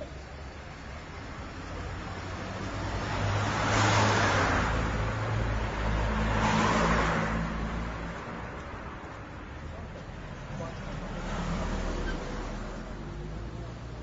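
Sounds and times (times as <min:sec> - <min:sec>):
cars passing by: 0:00.0 - 0:14.0.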